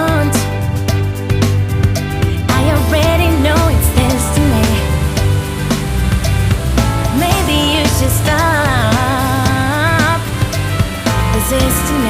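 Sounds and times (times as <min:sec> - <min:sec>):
music with beat and bass: 0:00.0 - 0:12.0.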